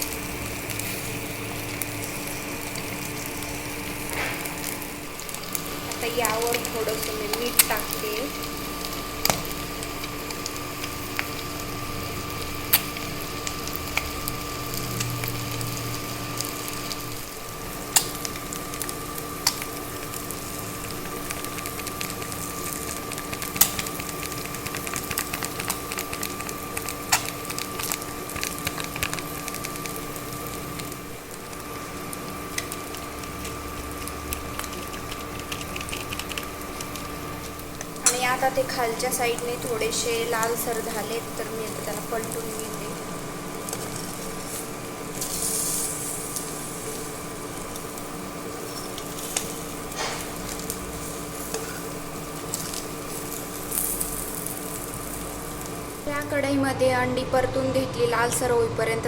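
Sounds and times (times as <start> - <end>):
eggs sizzling in hot oil: 0.0 - 56.5
steady hum: 0.0 - 59.0.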